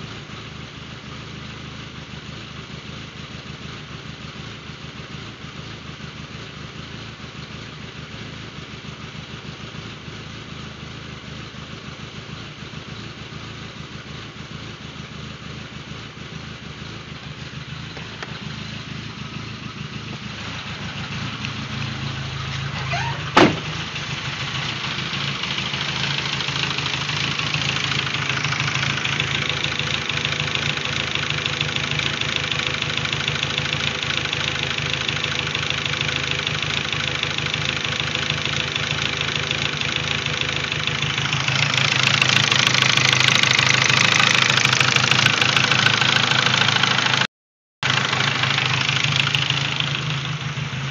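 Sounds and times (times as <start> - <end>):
car engine idling with misfire: 0.0 - 50.9.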